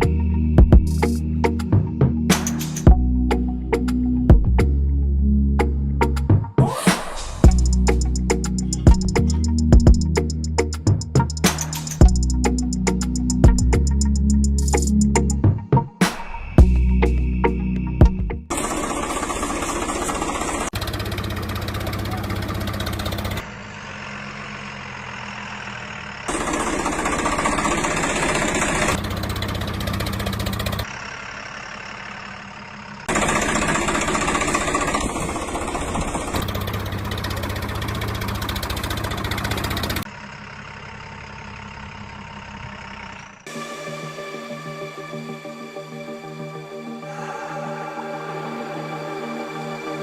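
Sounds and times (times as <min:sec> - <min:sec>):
diesel tractor engine running: 0:00.0 - 0:06.4, 0:07.4 - 0:15.9, 0:16.6 - 0:45.3.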